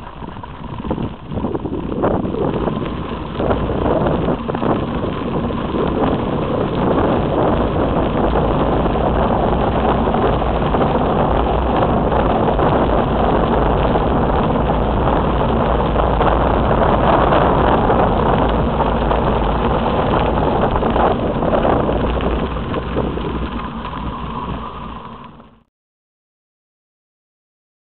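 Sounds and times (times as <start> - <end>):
wind rushing over microphone: 0.0 - 25.7.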